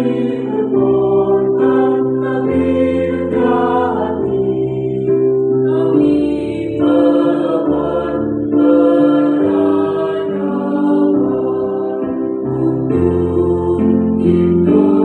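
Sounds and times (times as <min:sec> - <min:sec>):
mixed choir singing in harmony: 0:00.0 - 0:15.0.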